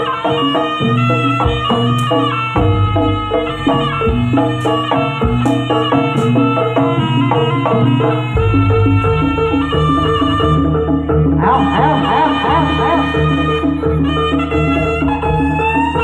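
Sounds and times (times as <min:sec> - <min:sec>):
ensemble music played live: 0:00.0 - 0:16.0.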